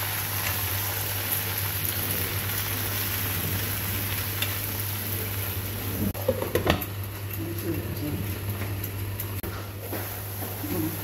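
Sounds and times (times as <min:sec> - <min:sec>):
leeks sizzling in a frying pan: 0:00.0 - 0:11.0.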